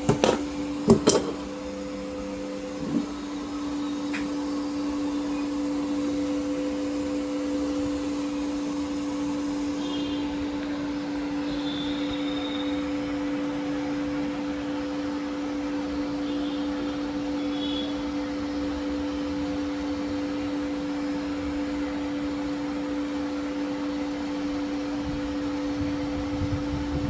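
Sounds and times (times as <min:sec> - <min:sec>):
printer fans humming: 0:00.0 - 0:27.0.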